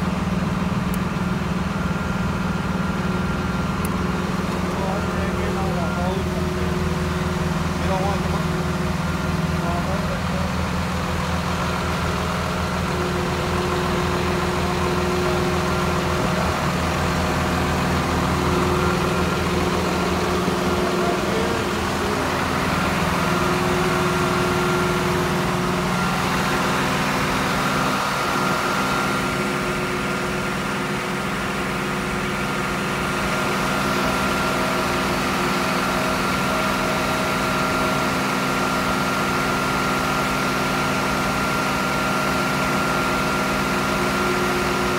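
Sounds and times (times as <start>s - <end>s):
thin steady whine: 0.0s - 44.9s
truck engine running: 0.0s - 44.9s.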